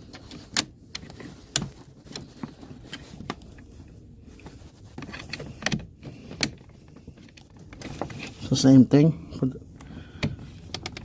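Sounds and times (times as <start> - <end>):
plastic parts clicking and tapping: 0.0 - 3.7, 4.4 - 8.6, 9.8 - 11.0.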